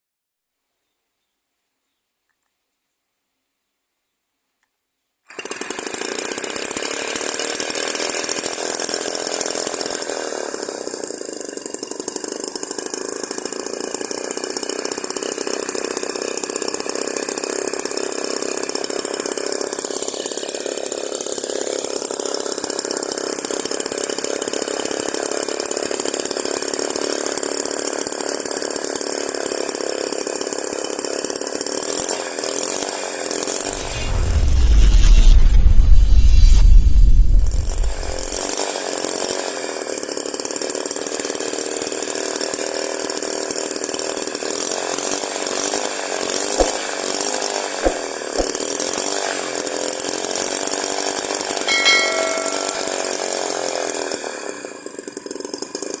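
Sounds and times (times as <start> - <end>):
small two-stroke engine buzzing: 5.3 - 33.7, 38.4 - 56.0.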